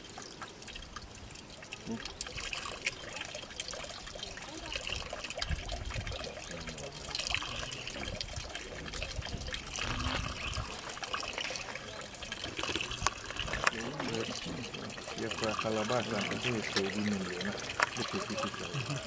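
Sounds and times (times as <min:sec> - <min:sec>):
water splashing into a plastic bucket: 0:00.0 - 0:19.0.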